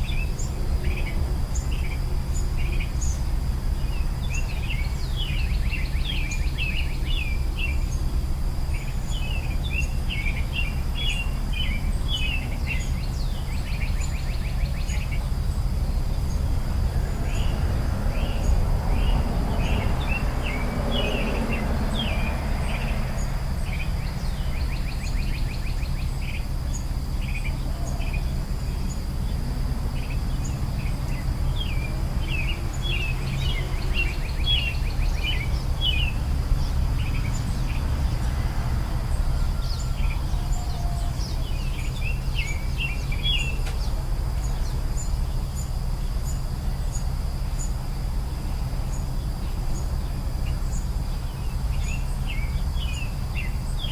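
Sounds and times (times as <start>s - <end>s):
high insect drone: 0.0s - 53.9s
low background rumble: 0.0s - 53.9s
songbirds chirping: 0.0s - 53.9s.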